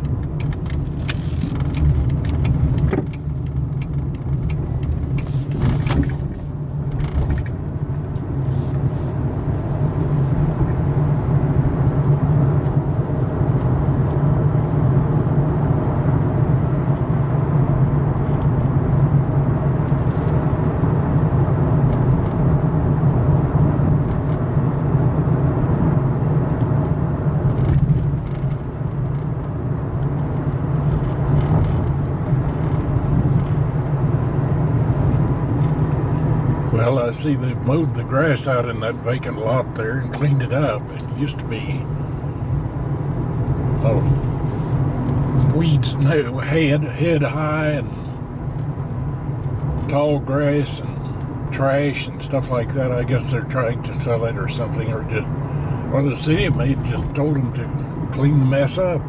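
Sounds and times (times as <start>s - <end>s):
engine and tyre drone: 0.0s - 59.0s.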